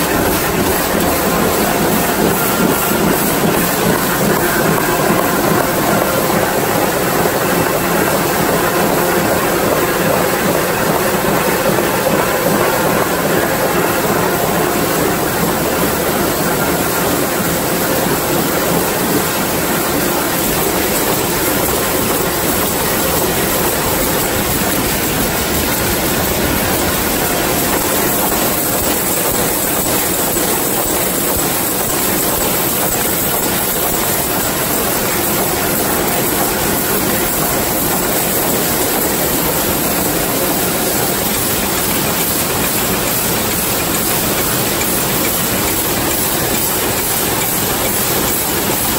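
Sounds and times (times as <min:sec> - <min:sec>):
machine presses clattering: 0:00.0 - 0:48.9.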